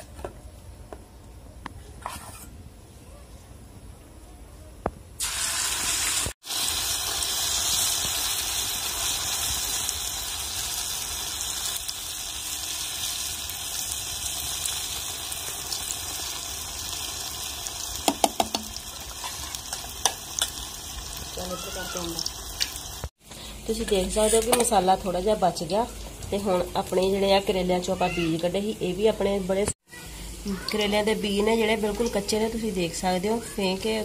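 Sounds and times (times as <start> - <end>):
food sizzling in hot oil: 5.2 - 34.0.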